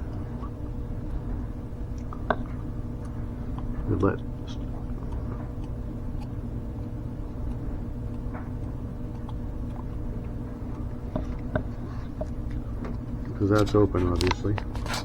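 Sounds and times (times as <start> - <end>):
air pump humming: 0.0 - 15.0.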